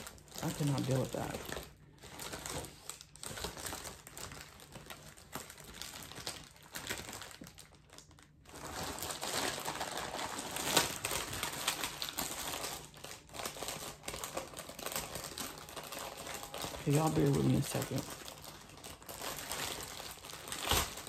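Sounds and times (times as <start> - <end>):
plastic mailer crinkling: 0.0 - 21.0.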